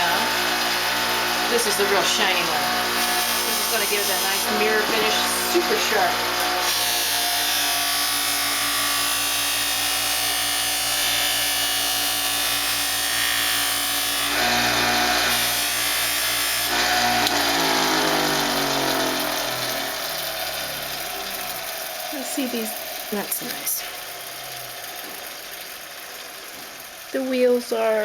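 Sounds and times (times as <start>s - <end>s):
gouge polished against buffing wheel: 0.0s - 25.3s
buffing machine motor hum: 0.0s - 28.0s.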